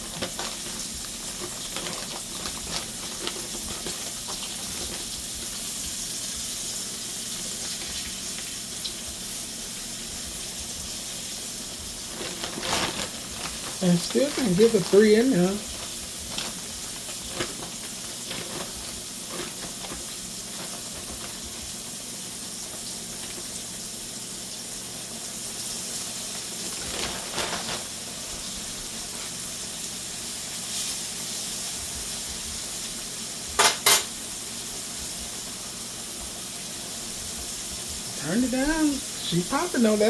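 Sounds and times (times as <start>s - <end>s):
food sizzling in hot oil: 0.0s - 40.0s.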